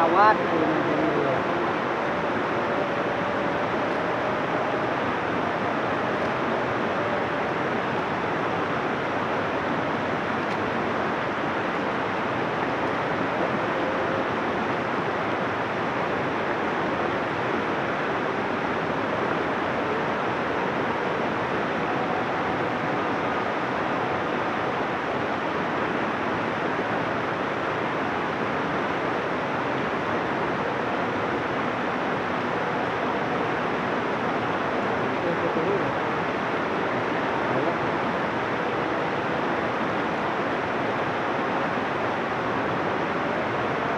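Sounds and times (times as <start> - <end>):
river rushing over rocks: 0.0 - 43.9.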